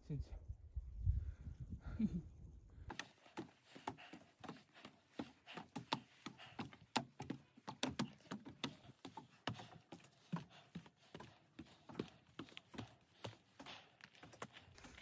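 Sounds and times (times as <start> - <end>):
footsteps on wooden stairs: 2.9 - 15.0.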